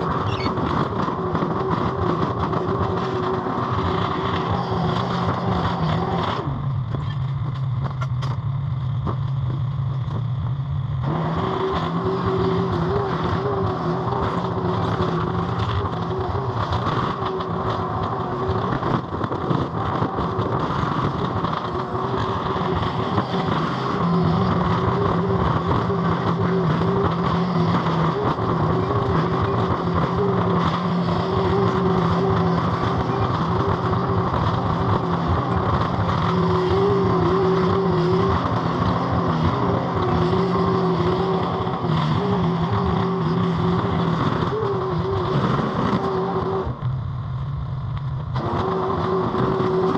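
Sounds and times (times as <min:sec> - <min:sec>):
skid steer engine under load: 0:00.0 - 0:46.9, 0:48.3 - 0:49.9.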